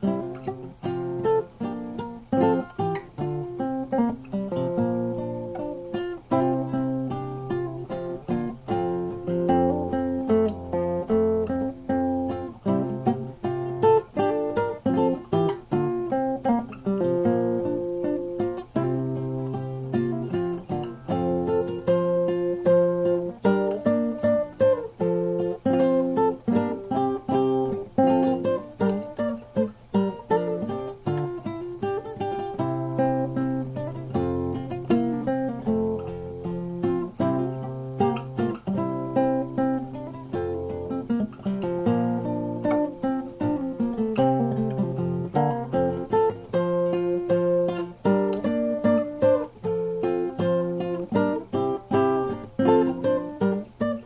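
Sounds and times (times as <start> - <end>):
fingerpicked classical guitar: 0.0 - 54.0.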